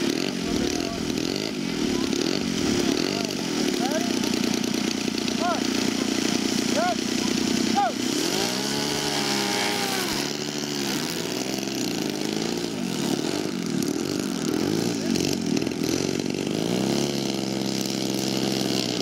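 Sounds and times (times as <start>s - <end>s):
model airplane engines running: 0.0s - 19.0s.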